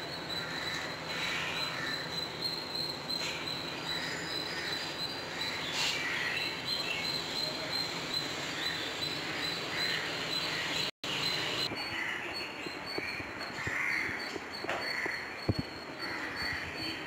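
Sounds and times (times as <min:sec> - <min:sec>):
high pulsing insect chirp: 0:00.0 - 0:10.6, 0:12.4 - 0:17.0.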